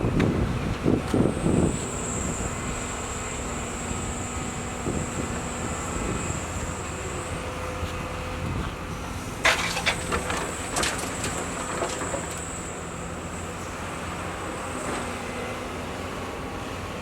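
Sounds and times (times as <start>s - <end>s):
excavator diesel engine whining: 0.0s - 17.0s.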